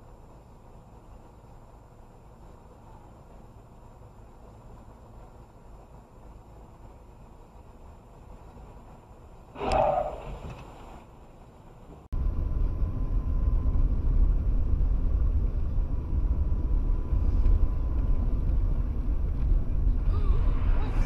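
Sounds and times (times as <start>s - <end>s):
faint steady whine: 0.0s - 21.0s
road vehicle rumble: 0.0s - 21.0s.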